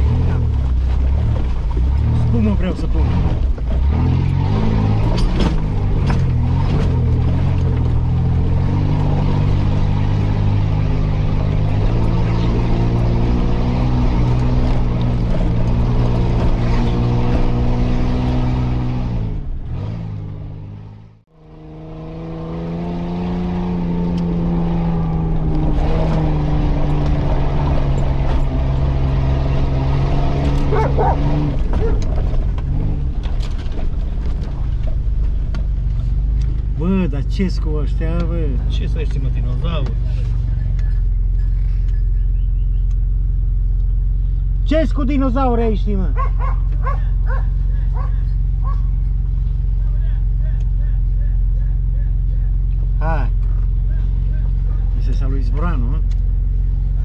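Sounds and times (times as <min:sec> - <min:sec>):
vehicle engine heard from inside cab: 0:00.0 - 0:57.0.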